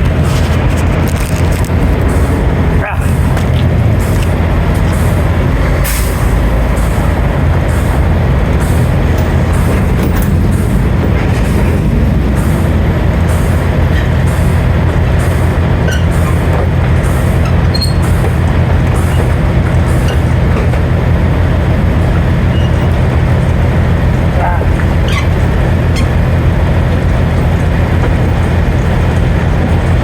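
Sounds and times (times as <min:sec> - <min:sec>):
road noise: 0:00.0 - 0:30.0
truck diesel engine drone: 0:00.0 - 0:30.0.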